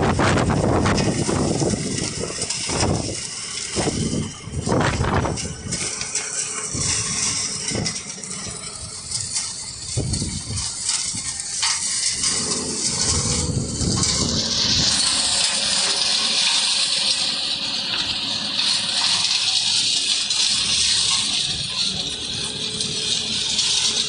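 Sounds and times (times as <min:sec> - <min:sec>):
concrete mixer running: 0:00.0 - 0:24.0
rush of falling concrete: 0:00.0 - 0:24.0
steady loud hiss: 0:00.0 - 0:24.0.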